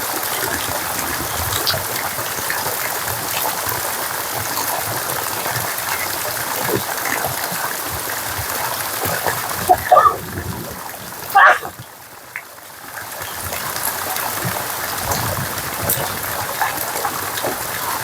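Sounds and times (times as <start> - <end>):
running water: 0.0 - 18.0
steady rain: 0.0 - 18.0.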